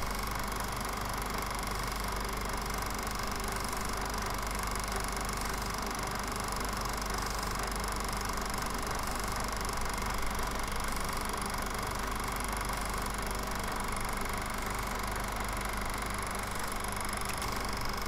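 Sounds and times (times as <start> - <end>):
film projector whirring: 0.0 - 18.0.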